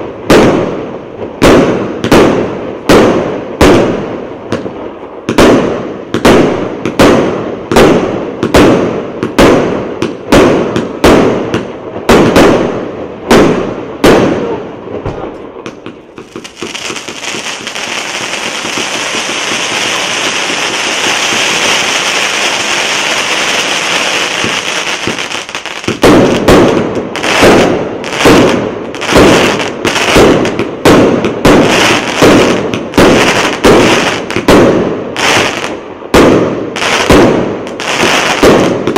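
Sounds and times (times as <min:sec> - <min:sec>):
dense firework crackling: 0:00.0 - 0:38.9
firework tubes firing: 0:00.0 - 0:38.9.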